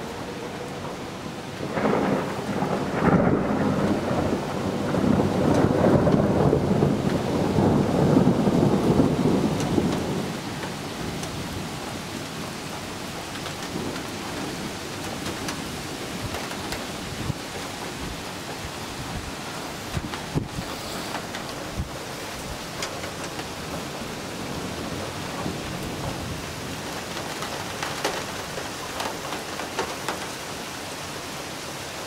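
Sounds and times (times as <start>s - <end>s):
thunder rumbling: 0.0s - 30.6s
steady rain: 0.0s - 32.0s.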